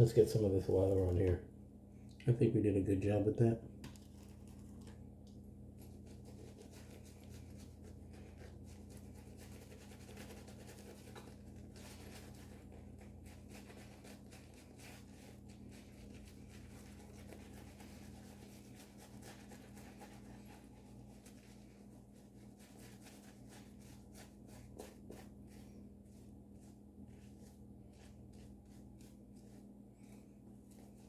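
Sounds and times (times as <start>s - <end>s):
low steady hum: 0.0s - 31.0s
shaving brush scratchy strokes: 5.7s - 31.0s.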